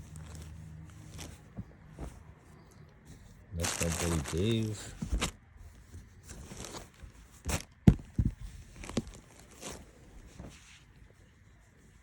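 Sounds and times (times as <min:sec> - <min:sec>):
rustling of t-shirts: 0:00.0 - 0:12.0.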